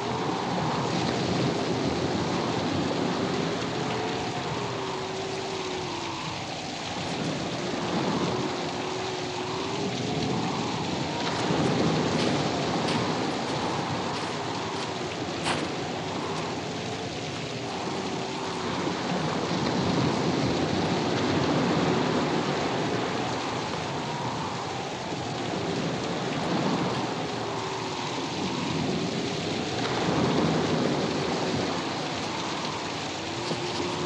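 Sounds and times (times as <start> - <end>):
faint wavering whistling tones: 0.0 - 34.0
roar of rain and sea surf: 0.0 - 34.0.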